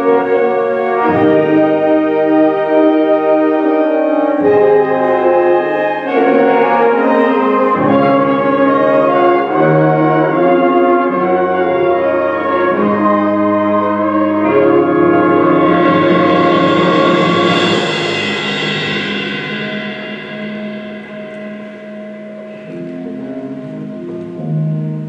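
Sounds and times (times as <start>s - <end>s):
concert band brass chords: 0.0s - 25.0s.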